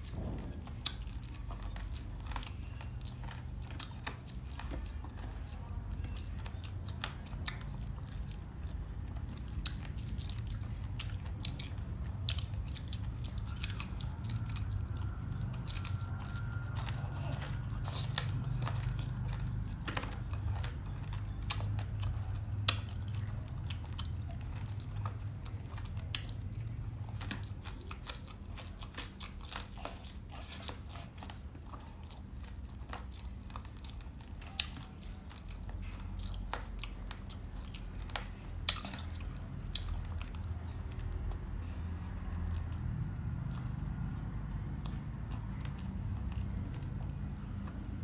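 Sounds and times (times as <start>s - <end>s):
low steady hum: 0.0s - 48.0s
person chewing food: 0.0s - 48.0s.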